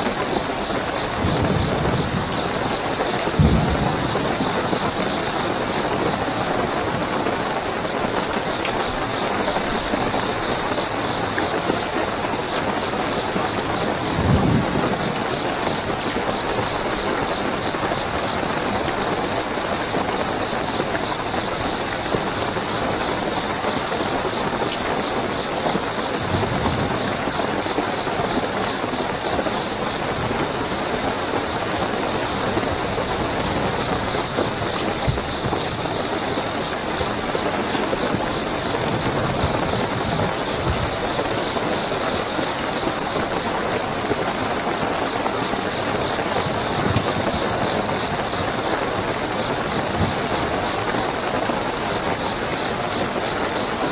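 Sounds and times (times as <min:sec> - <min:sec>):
crickets chirping: 0:00.0 - 0:53.9
heavy rainfall: 0:00.0 - 0:53.9.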